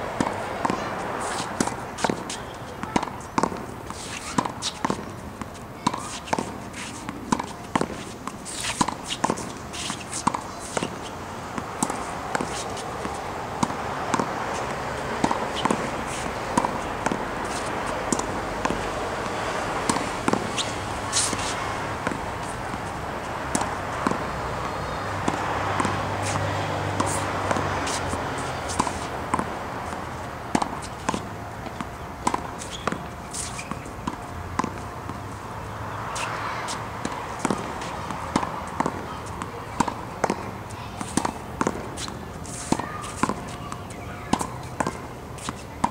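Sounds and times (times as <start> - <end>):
racket hitting tennis ball: 0.0 - 45.9.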